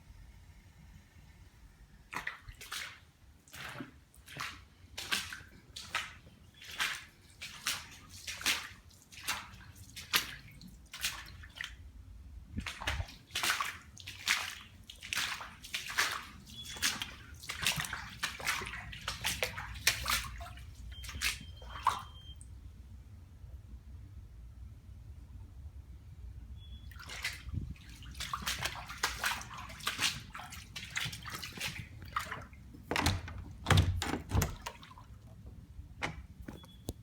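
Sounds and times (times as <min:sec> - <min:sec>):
water sloshing and splashing: 0:02.1 - 0:22.4, 0:26.8 - 0:37.0.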